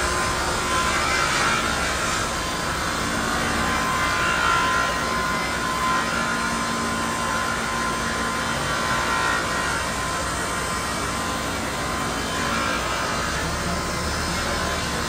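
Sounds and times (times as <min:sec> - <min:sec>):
machine hum: 0:00.0 - 0:15.0
sawmill cutting a log: 0:00.0 - 0:15.0.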